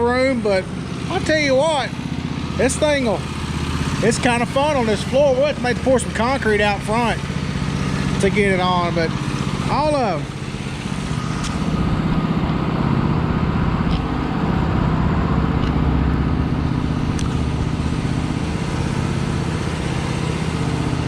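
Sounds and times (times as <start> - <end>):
go-kart engine running: 0.0 - 21.0.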